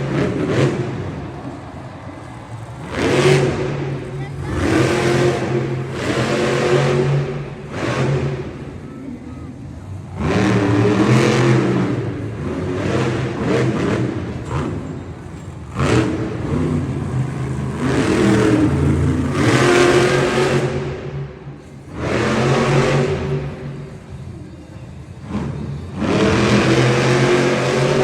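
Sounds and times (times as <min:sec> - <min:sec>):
monster truck engines revving: 0:00.0 - 0:28.0.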